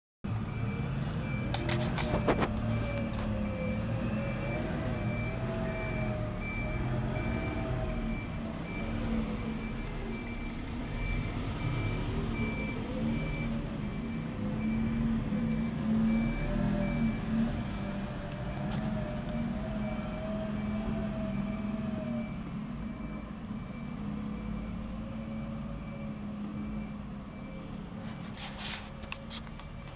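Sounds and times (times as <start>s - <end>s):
reversing alarm beeps: 0.4s - 28.4s.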